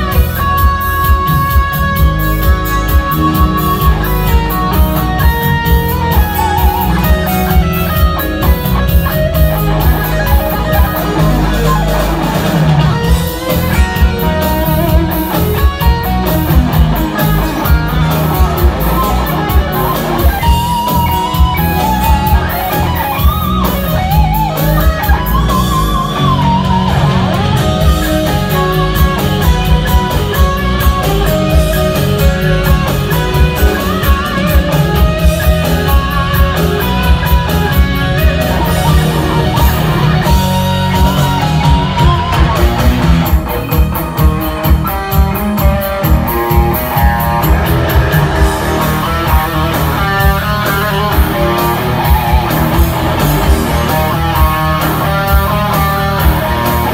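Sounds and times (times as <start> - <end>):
bass: 0.0 - 56.9
drums: 0.0 - 56.9
electric guitar lead: 0.0 - 56.9.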